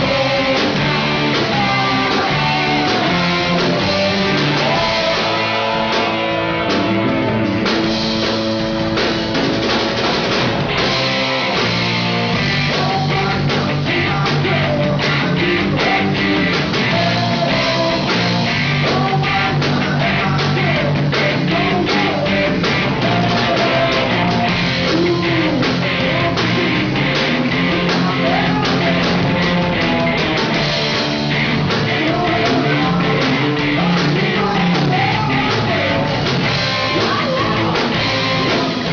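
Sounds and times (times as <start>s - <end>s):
drum kit beat: 0.0s - 38.9s
electric bass: 0.0s - 38.9s
electric guitars: 0.0s - 38.9s.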